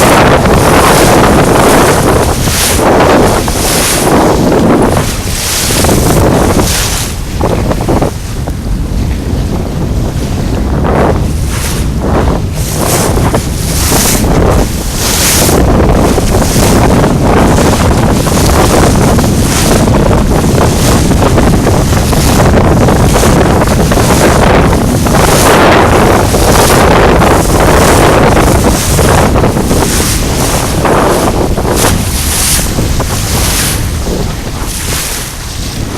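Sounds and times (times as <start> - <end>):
strong gusty wind on microphone: 0.0 - 35.9.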